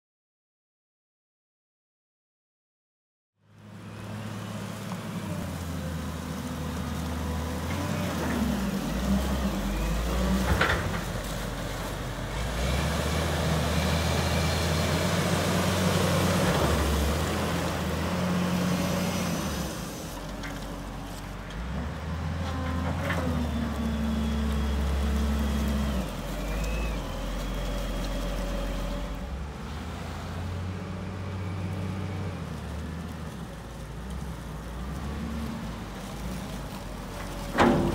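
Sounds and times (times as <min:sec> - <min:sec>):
wheel loader diesel engine revving: 0:03.6 - 0:37.9.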